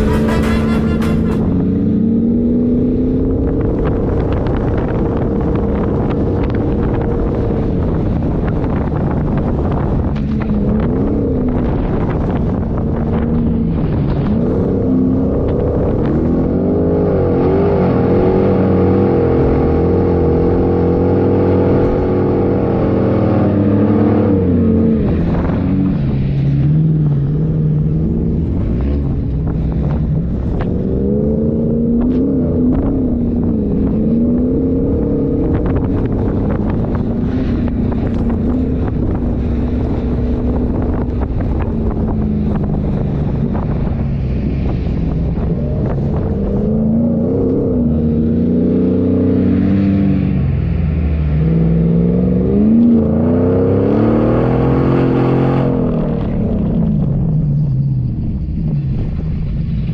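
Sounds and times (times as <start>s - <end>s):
off-road engine revving: 0.0s - 59.9s.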